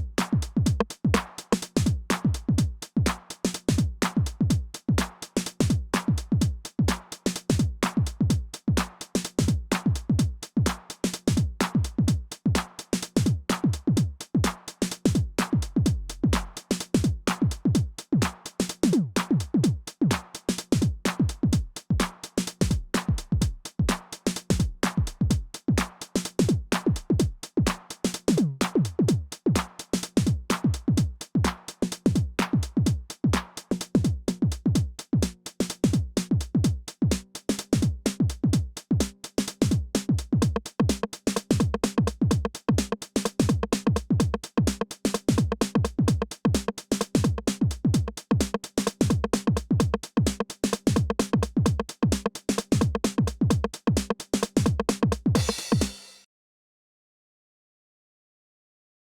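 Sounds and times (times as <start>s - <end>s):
drum machine kick drums: 0.0s - 56.2s
hi-hats and claps: 0.0s - 56.3s.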